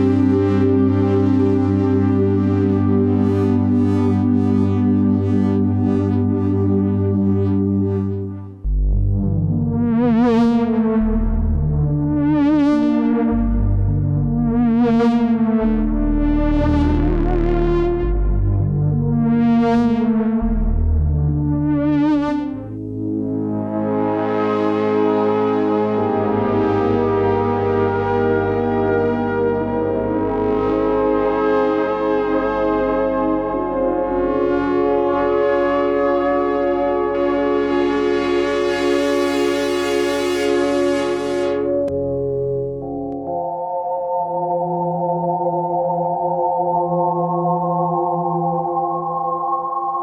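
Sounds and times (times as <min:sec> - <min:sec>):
synthesizer chords with vibrato: 0:00.0 - 0:50.0.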